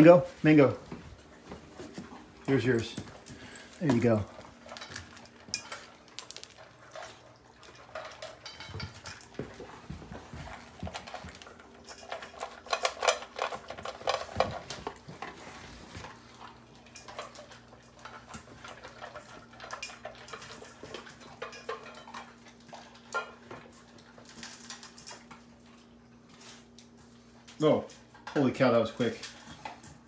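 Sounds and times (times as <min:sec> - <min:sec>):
dogs crunching food: 0:00.0 - 0:30.0.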